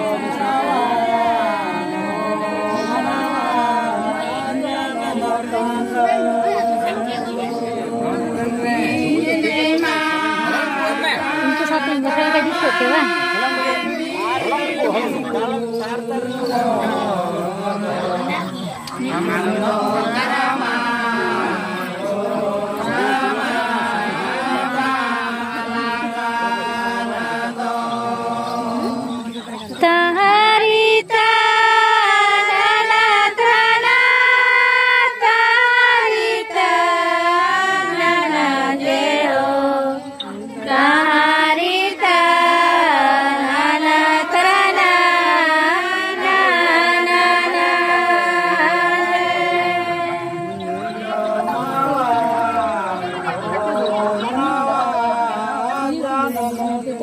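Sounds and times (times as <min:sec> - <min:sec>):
voices singing a chant: 0:00.0 - 0:57.0.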